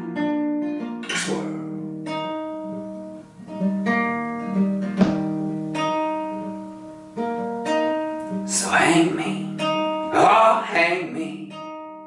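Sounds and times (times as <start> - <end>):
classical guitar picked chords: 0.0 - 12.0.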